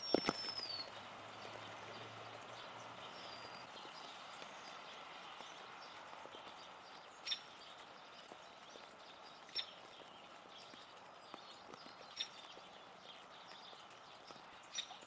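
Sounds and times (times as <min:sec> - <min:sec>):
rain pattering on leaves: 0:00.0 - 0:15.0.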